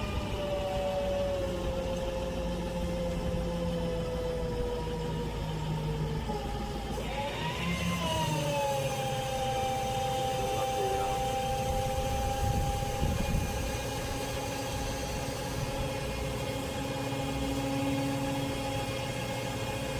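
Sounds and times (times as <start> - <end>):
truck engine whining: 0.0 - 19.9.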